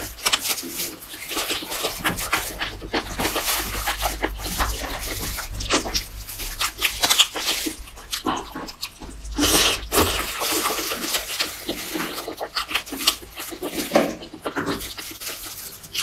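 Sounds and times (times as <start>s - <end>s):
chewing fried chicken: 0.0s - 16.0s.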